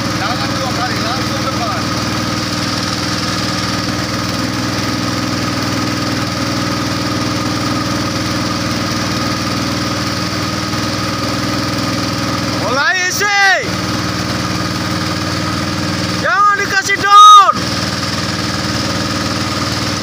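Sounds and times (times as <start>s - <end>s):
boat motor droning: 0.0s - 20.0s.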